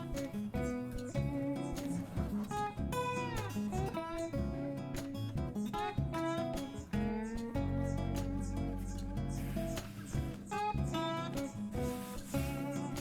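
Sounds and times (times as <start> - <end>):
plucked acoustic guitar: 0.0 - 13.0.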